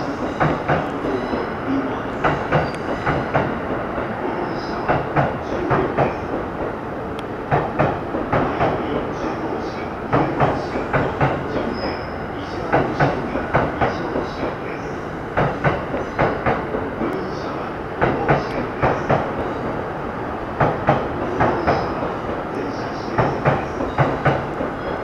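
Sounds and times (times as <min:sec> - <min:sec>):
train wheels clacking: 0:00.0 - 0:19.8, 0:20.6 - 0:25.0
train running rumble: 0:00.0 - 0:25.0.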